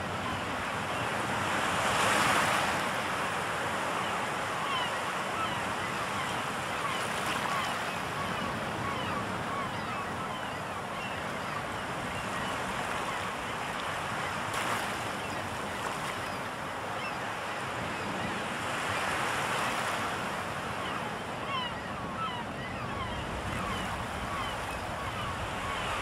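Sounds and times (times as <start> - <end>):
waves washing on shore: 0.0 - 26.0.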